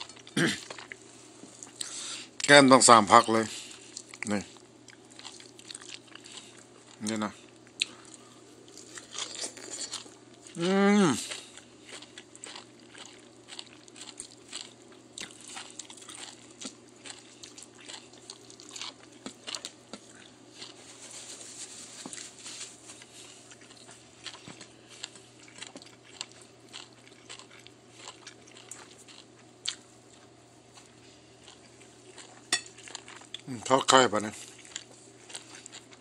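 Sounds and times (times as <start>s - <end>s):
person chewing food: 0.0s - 2.5s, 3.6s - 36.0s.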